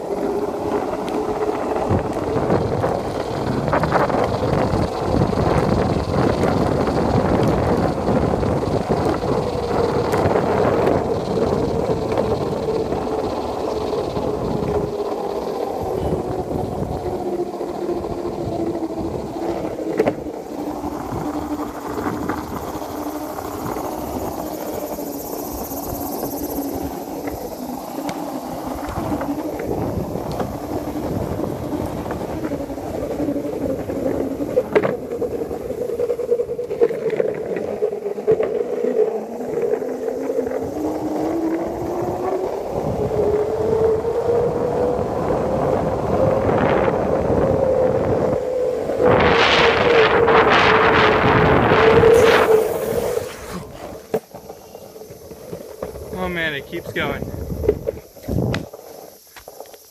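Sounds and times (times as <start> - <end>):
skateboard wheels rolling on concrete: 0.0 - 59.9.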